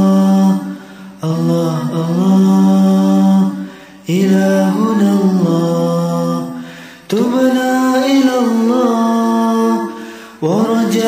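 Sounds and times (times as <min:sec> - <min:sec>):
voices chanting a cappella: 0:00.0 - 0:11.0.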